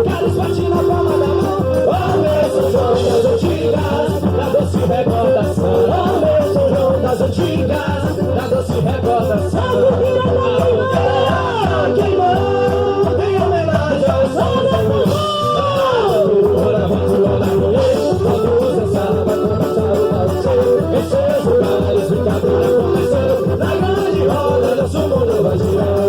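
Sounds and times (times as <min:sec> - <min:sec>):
band playing a steady beat: 0:00.0 - 0:26.0
person singing: 0:00.0 - 0:26.0.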